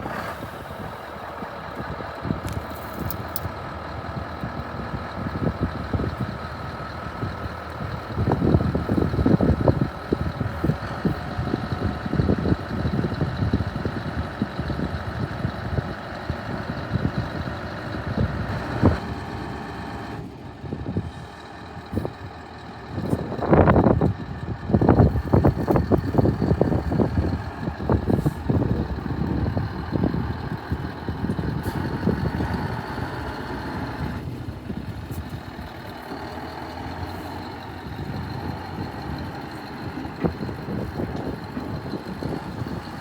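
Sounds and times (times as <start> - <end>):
truck diesel engine idling: 0.0 - 43.0
wind buffeting microphone: 0.0 - 43.0.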